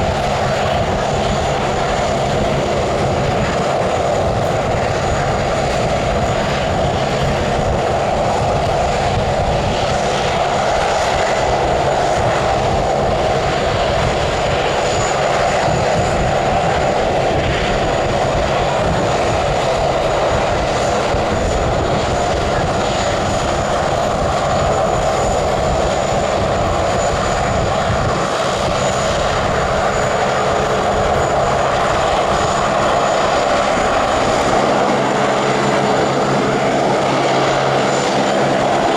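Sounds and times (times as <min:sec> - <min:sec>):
airliner engines rushing: 0:00.0 - 0:38.9.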